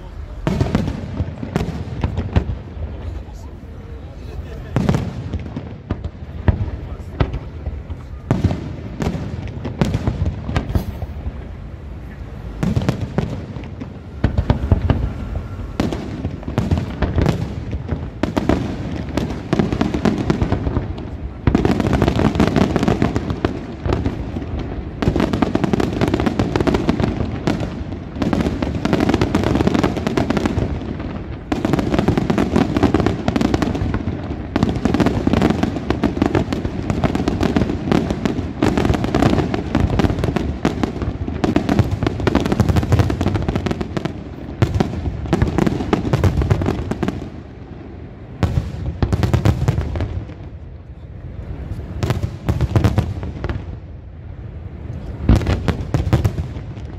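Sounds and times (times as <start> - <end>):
fireworks crackling: 0.0 - 56.9.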